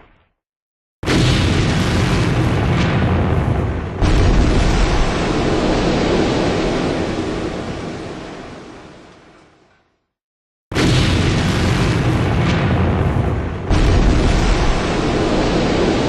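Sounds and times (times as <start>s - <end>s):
explosion booms: 1.0s - 8.8s, 10.7s - 16.0s.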